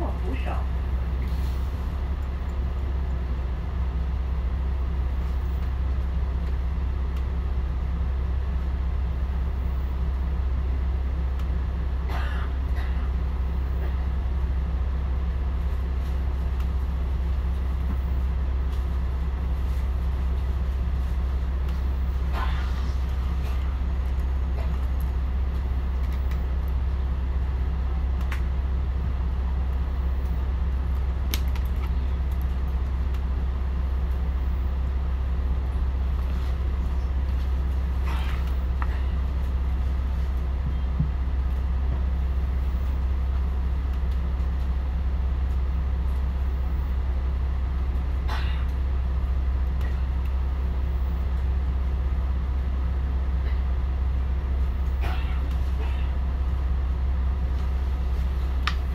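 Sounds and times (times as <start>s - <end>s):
diesel bus engine idling: 0.0s - 58.9s
radiator cooling fan: 0.0s - 58.9s.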